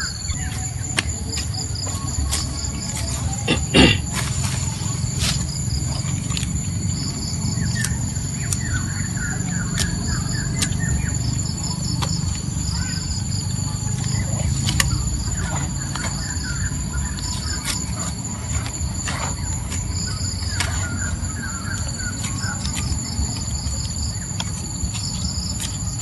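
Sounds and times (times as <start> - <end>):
bird chirps: 0.0 - 26.0.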